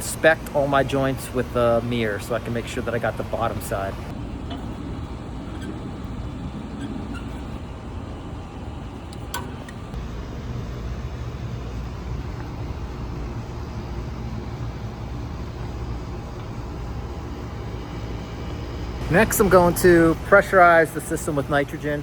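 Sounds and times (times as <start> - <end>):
low background rumble: 0.0 - 20.7.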